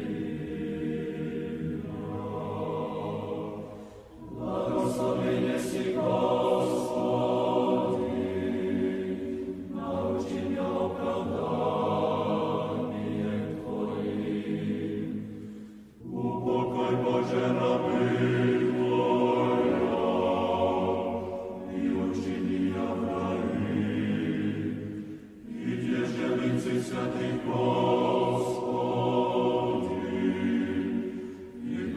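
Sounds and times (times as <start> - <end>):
choir singing chant: 0.0 - 31.9.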